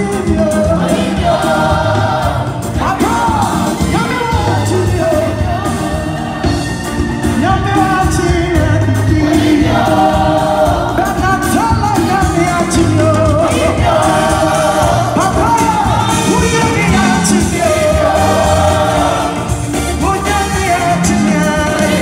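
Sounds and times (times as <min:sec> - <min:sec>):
band with bass and drums: 0:00.0 - 0:22.0
choir and lead singers: 0:00.0 - 0:22.0
crowd singing along: 0:00.0 - 0:22.0.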